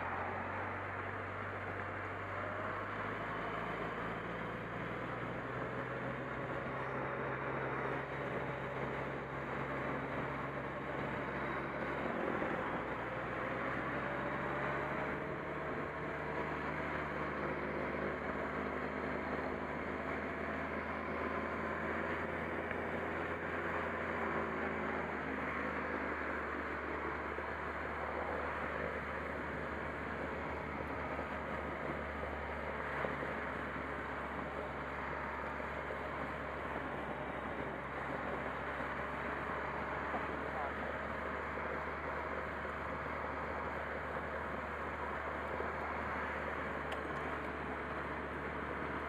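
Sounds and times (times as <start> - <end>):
road noise: 0.0 - 49.0.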